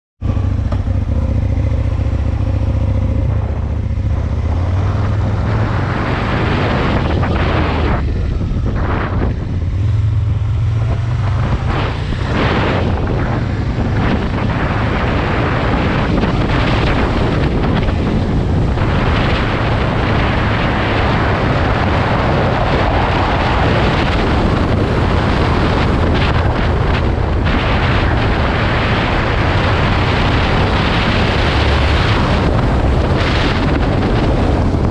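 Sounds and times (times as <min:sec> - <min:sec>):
motorcycle engine running: 0:00.2 - 0:34.9
wind noise on microphone: 0:00.2 - 0:34.9.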